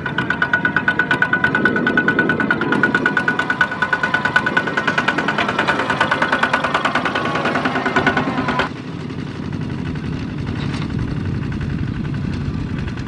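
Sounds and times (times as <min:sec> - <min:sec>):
diesel engine knocking: 0:00.0 - 0:13.0
tractors driving away: 0:00.0 - 0:13.0.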